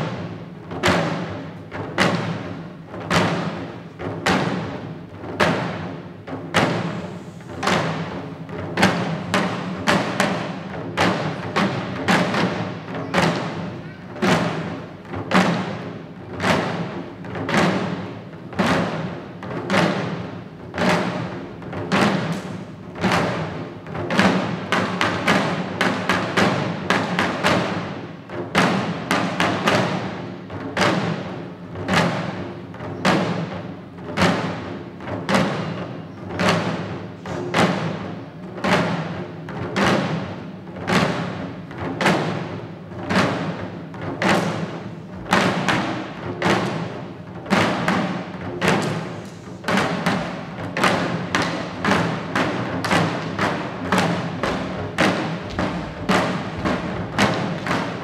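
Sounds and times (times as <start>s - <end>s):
drums beaten with sticks: 0.0s - 58.0s.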